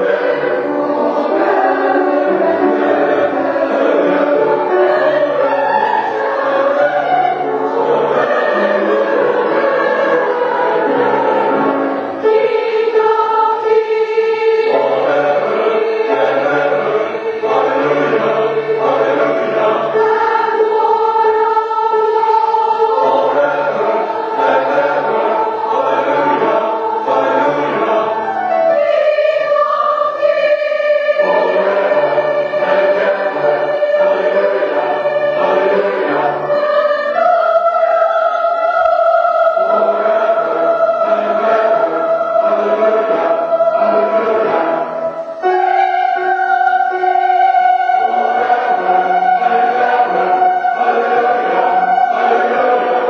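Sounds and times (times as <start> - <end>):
choir singing slow chords: 0.0 - 53.0.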